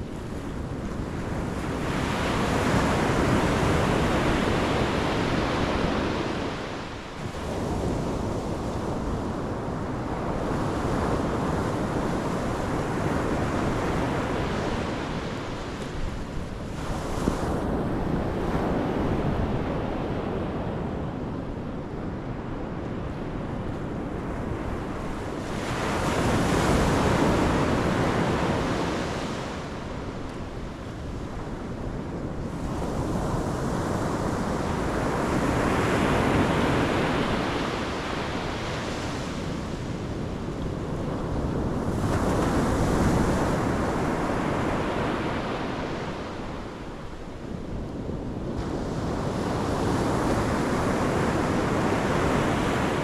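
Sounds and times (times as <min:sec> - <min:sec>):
wind buffeting microphone: 0:00.0 - 0:53.0
ocean surf breaking on shore: 0:00.5 - 0:20.8, 0:24.2 - 0:53.0.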